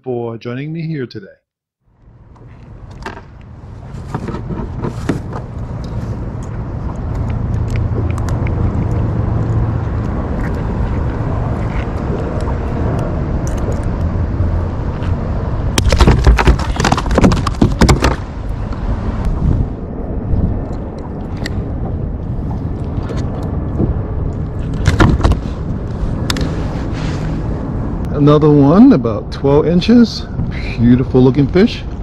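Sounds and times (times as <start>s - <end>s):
wind rumble on microphone: 2.0s - 32.0s.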